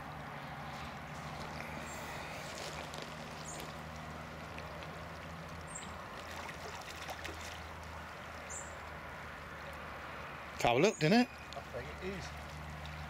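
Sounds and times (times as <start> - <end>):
fish splashing in water: 1.1 - 9.9, 11.3 - 13.0.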